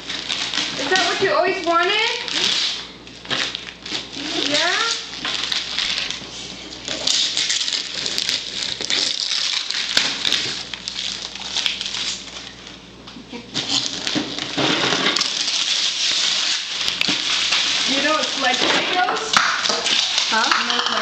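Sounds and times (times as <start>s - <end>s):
wrapping paper ripping and crumpling: 0.0s - 12.7s, 13.5s - 21.0s.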